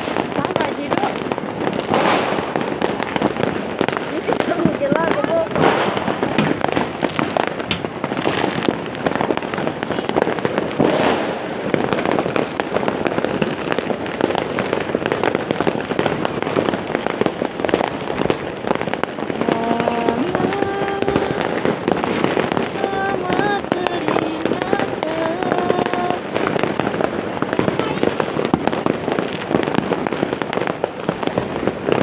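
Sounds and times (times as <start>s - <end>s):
fireworks popping and banging: 0.0s - 32.0s.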